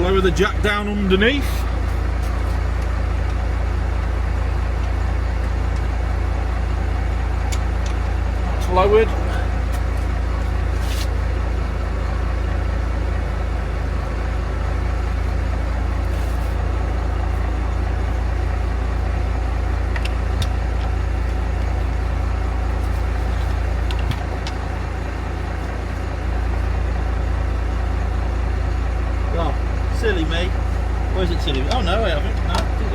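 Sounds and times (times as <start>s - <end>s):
vehicle engine idling: 0.0s - 32.9s.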